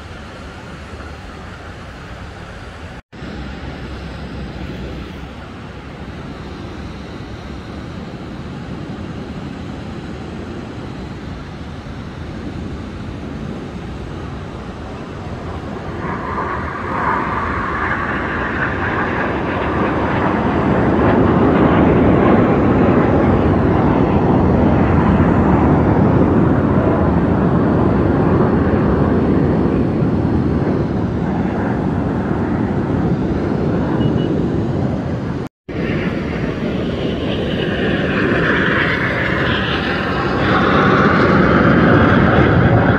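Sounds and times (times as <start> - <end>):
jet engines roaring past: 0.0 - 42.9.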